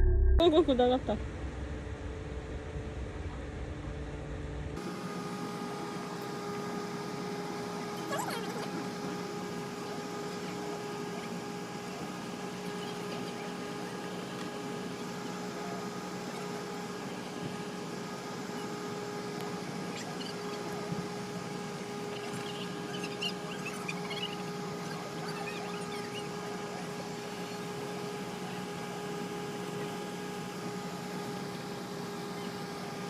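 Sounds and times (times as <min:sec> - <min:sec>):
machine hum with whine: 0:00.0 - 0:33.0.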